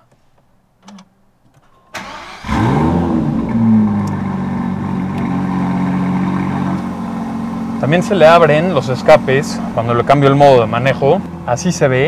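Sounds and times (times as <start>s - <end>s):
car engine revving and idling: 2.2s - 12.0s.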